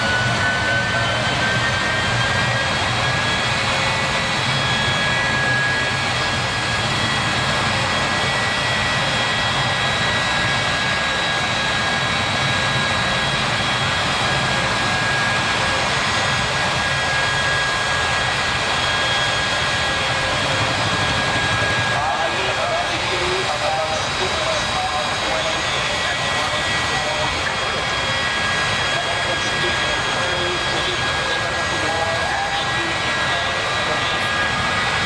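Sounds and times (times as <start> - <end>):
jet engine running with turbine whine: 0.0 - 35.0.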